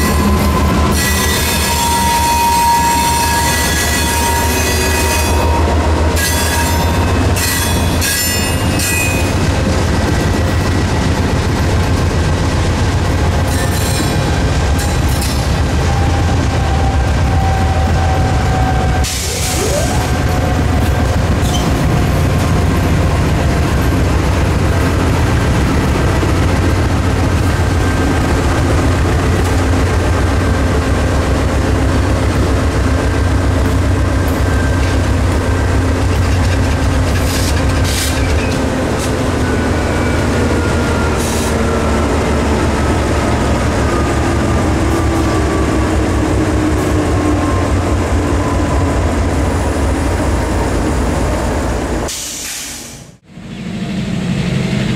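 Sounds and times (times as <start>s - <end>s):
diesel locomotive engines rumbling: 0.0s - 54.9s.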